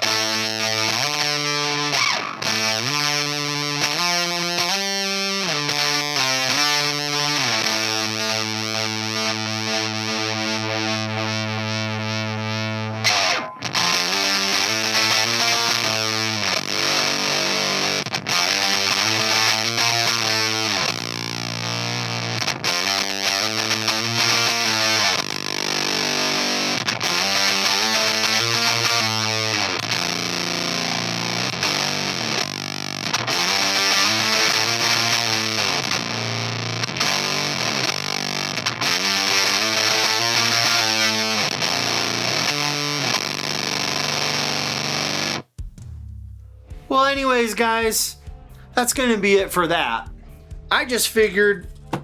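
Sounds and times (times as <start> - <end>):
fuzz electric guitar: 0.0 - 45.5.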